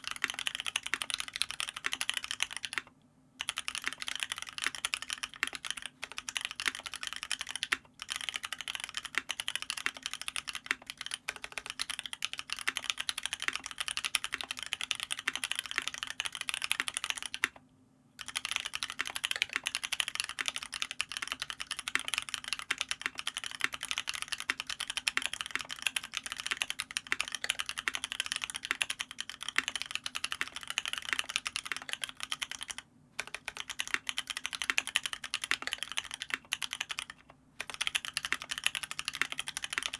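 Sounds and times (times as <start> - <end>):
mechanical keyboard typing: 0.0 - 17.6, 18.2 - 39.9.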